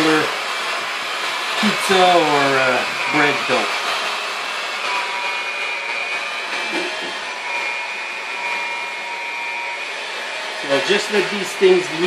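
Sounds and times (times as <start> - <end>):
electric hand mixer whirring: 0.0 - 12.0.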